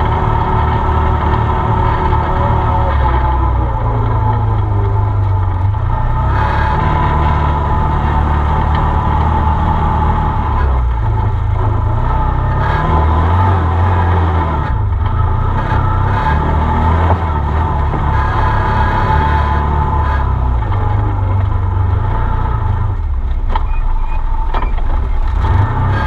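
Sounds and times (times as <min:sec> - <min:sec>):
off-road vehicle engine: 0:00.0 - 0:26.0.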